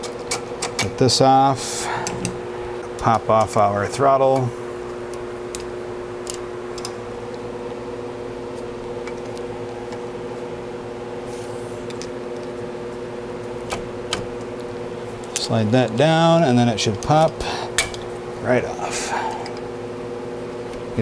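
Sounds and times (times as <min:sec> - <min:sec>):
shop fan humming: 0:00.0 - 0:21.0.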